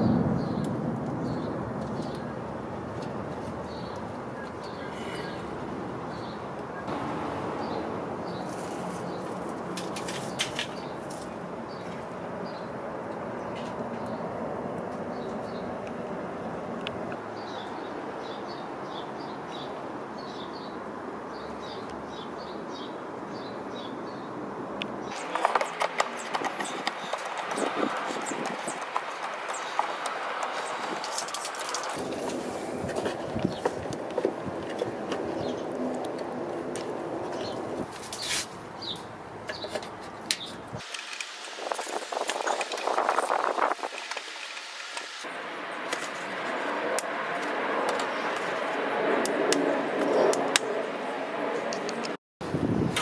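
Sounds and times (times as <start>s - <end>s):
steady background noise: 0.0s - 53.0s.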